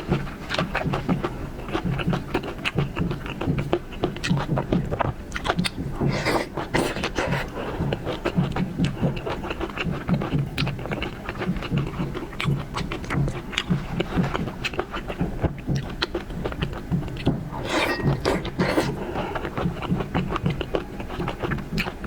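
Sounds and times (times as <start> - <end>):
chewing with wet mouth clicks: 0.0 - 22.0.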